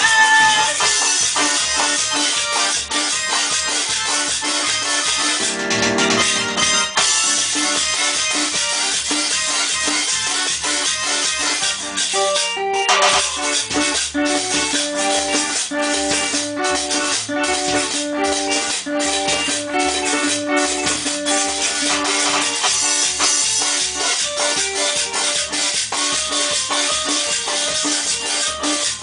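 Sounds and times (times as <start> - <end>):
fast percussion beat: 0.0 - 29.0
keyboard melody: 0.0 - 29.0.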